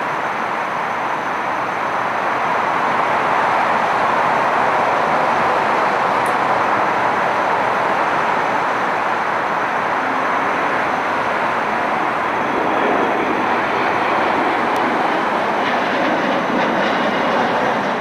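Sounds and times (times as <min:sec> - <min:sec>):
jet airliner climbing: 0:00.0 - 0:18.0.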